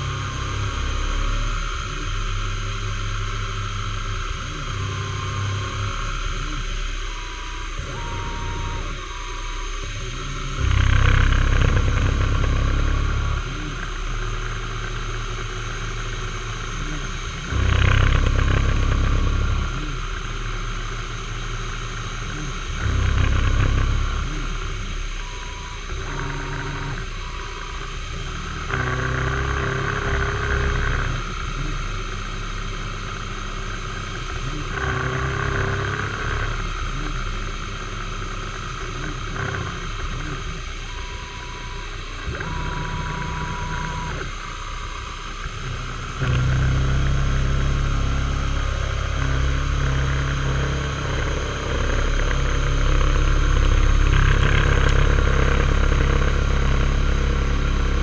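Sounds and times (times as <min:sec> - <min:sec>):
spindle whirring: 0:00.0 - 0:58.0.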